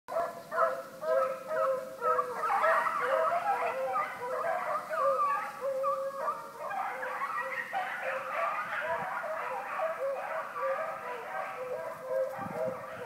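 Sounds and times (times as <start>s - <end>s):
hounds baying: 0.1s - 13.0s.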